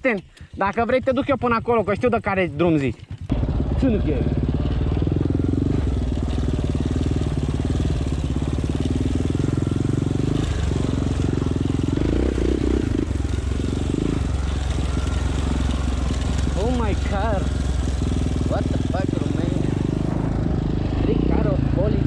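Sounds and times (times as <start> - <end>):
quad bike engine running: 0.6 - 22.0.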